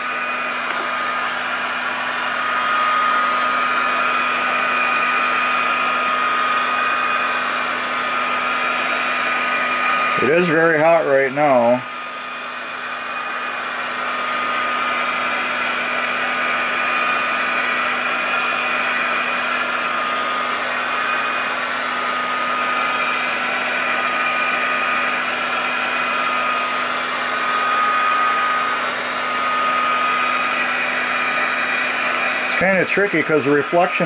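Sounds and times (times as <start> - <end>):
heat gun blowing air: 0.0 - 34.0.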